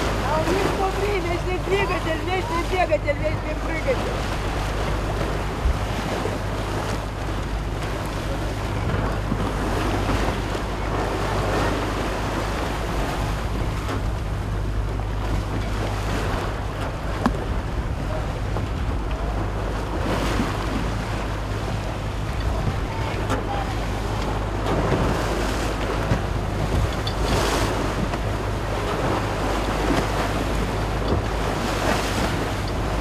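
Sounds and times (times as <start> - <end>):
waves and spray rushing: 0.0 - 33.0
wind buffeting microphone: 0.0 - 33.0.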